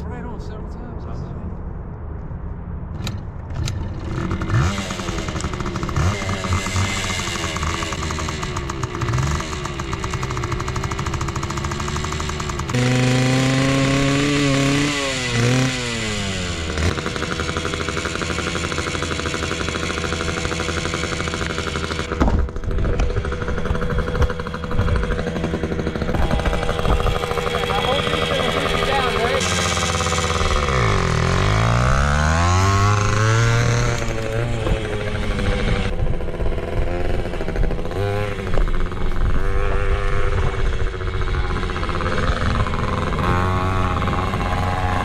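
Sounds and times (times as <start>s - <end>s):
small motorbike engine revving: 3.0s - 45.0s.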